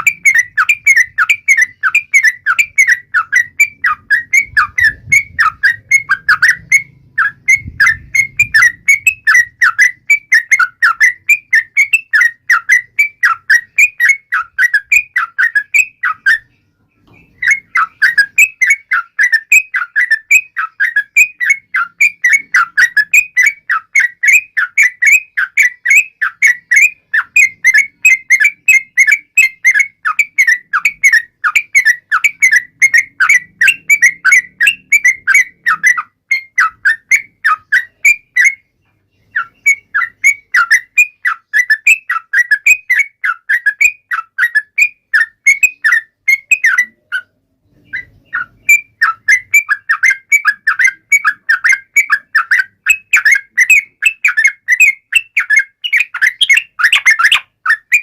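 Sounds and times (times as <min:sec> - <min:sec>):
bird singing chattering whistles: 0:00.0 - 0:58.0.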